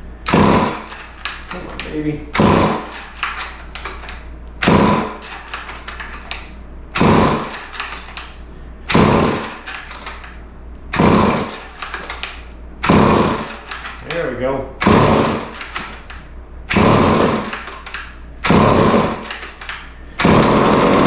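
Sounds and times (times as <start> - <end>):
chainsaw recoil starter pulls: 0.2 - 6.4, 7.0 - 8.3, 8.9 - 10.2, 11.0 - 14.2, 14.8 - 21.0.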